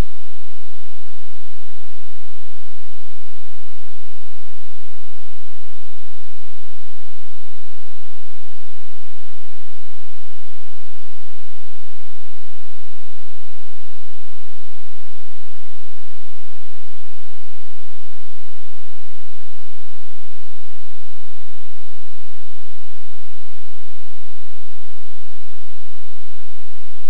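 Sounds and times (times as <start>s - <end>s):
electrical hum and hiss: 0.0s - 27.0s.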